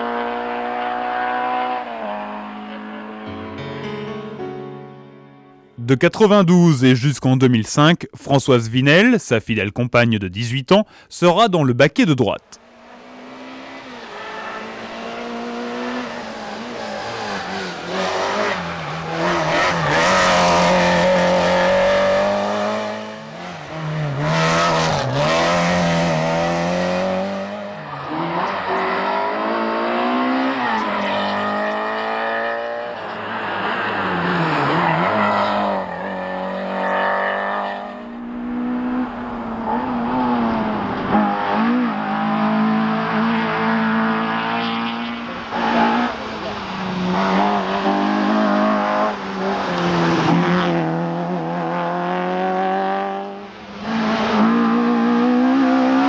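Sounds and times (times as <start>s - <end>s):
rally car engines revving: 0.0s - 3.2s, 12.4s - 56.0s.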